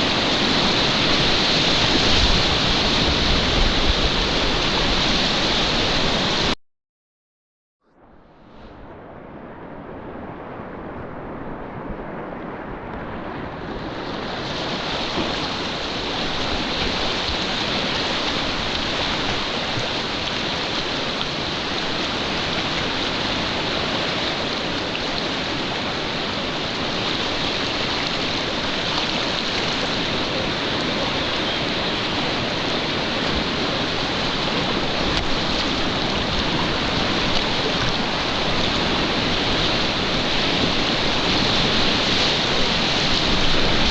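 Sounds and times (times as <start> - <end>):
river rapids rushing: 0.0 - 6.6, 13.1 - 43.9.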